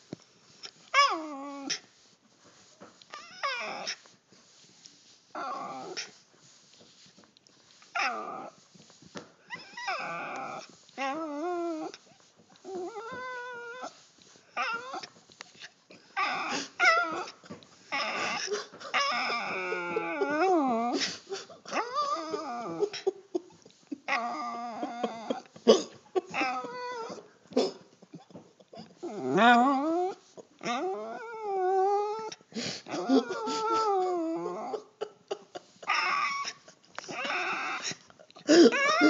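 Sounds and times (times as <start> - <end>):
dog whining: 0.9 - 1.9, 3.1 - 4.1, 5.3 - 6.2, 7.9 - 8.6, 9.4 - 15.2, 15.9 - 39.0.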